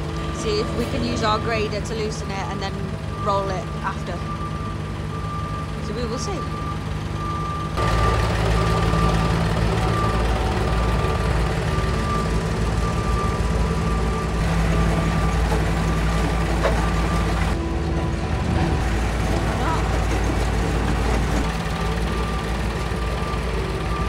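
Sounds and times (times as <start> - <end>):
diesel tractor engine running: 0.0 - 24.0.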